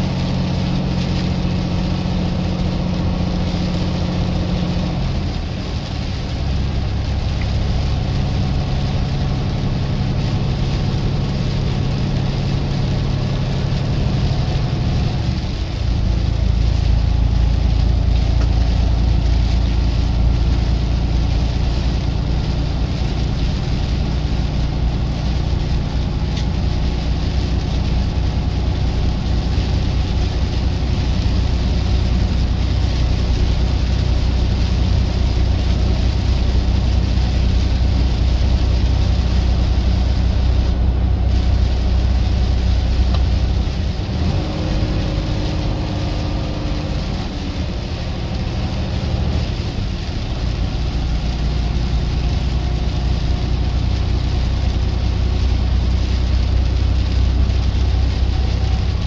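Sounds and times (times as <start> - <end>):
road noise: 0.0 - 59.0
truck diesel engine: 0.0 - 59.0.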